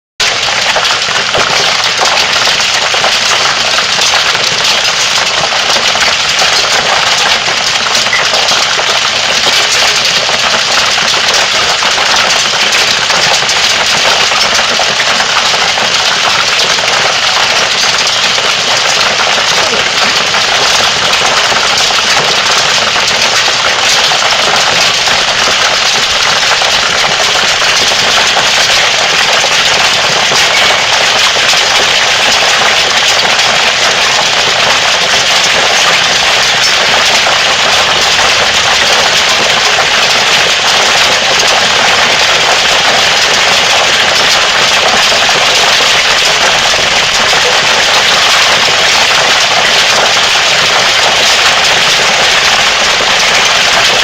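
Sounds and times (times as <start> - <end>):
hail clattering on surfaces: 0.2 - 54.0.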